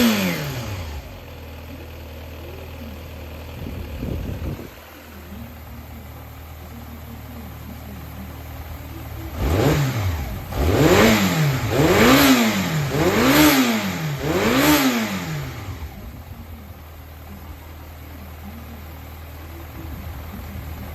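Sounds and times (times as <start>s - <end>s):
motorcycle engine idling and revving: 0.0s - 20.9s.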